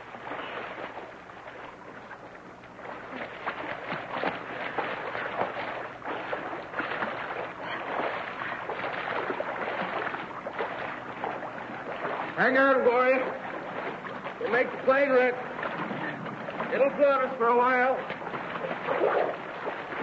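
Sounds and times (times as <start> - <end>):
water splashing from swimmers: 0.0 - 20.0.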